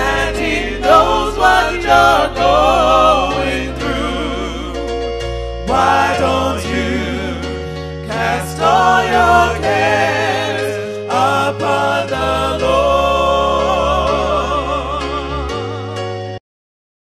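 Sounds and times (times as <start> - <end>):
gospel singing: 0.0 - 16.4
sustained bass notes: 0.0 - 16.4.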